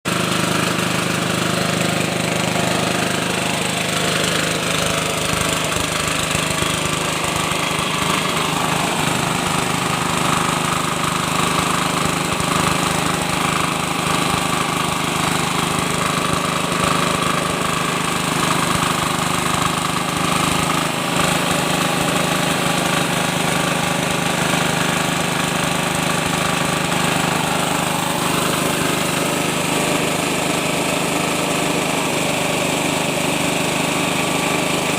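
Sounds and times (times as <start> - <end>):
rice milling machine: 0.0 - 34.9
diesel engine running: 0.1 - 34.9.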